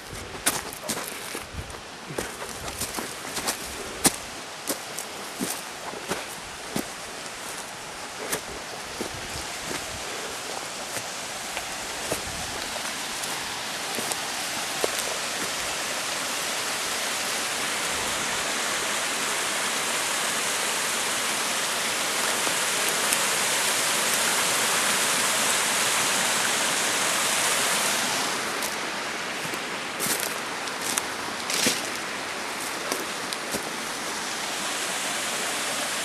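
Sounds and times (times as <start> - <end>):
small waterfall rushing: 0.0 - 36.0.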